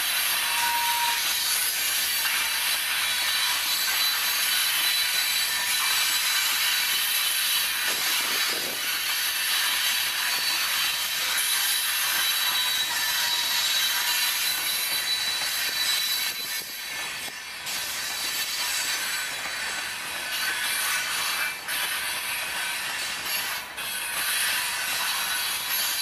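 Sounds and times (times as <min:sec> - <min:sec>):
high-pitched whine: 0:00.0 - 0:26.0
train wheels rolling on rail: 0:00.0 - 0:26.0.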